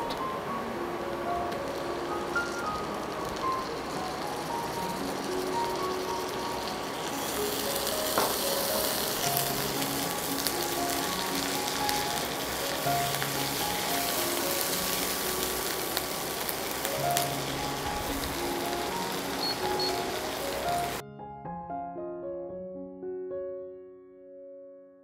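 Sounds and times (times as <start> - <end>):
onions sizzling in oil: 0.0 - 21.0
soft background music: 0.0 - 25.0.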